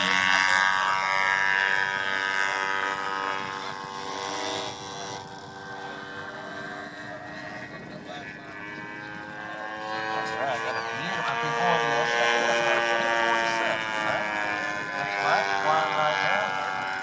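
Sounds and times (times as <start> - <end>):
model plane engine and propeller: 0.0 - 17.0.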